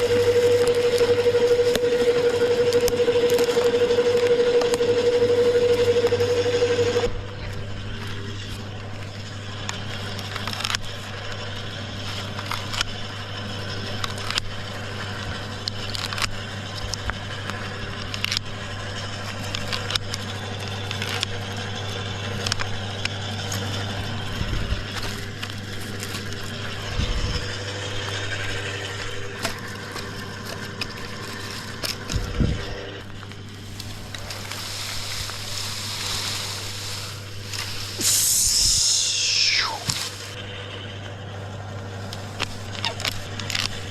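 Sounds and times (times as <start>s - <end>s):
branches crackling and snapping: 0.0s - 43.9s
wood chipper running: 0.0s - 43.9s.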